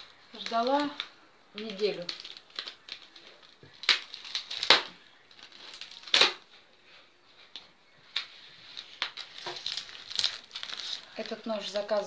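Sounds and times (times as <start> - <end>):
packaging crinkling: 0.0 - 6.5, 8.1 - 12.0.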